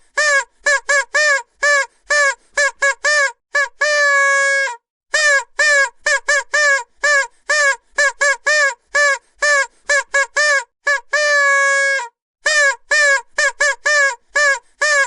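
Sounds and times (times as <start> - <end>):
vuvuzela toots: 0.2 - 15.0.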